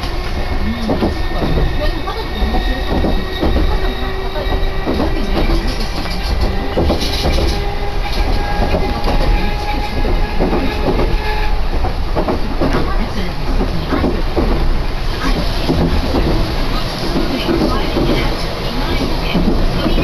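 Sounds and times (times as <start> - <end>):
train interior rumble: 0.0 - 20.0
train motor hum: 0.0 - 20.0
wheels clacking over rail joints: 0.0 - 20.0.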